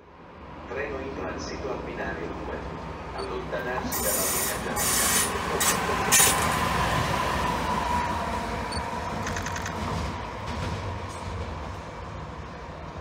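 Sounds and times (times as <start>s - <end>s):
locomotive wheels rumbling on rails: 1.0s - 13.0s.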